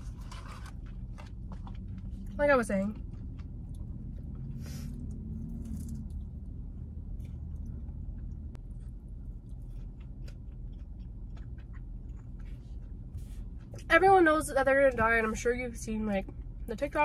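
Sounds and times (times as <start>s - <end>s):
person chewing crunchy food: 0.0s - 13.9s
steady low rumble: 0.0s - 17.0s.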